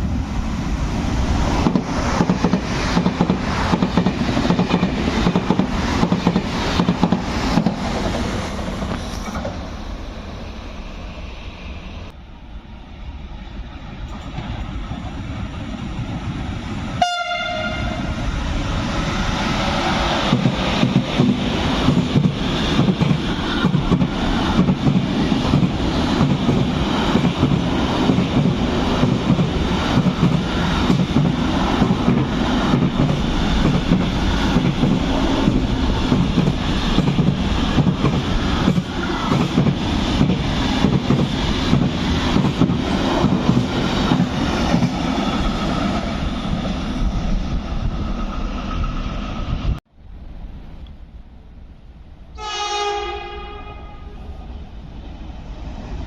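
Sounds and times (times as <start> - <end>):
train wheels rumbling on rails: 0.0 - 50.8.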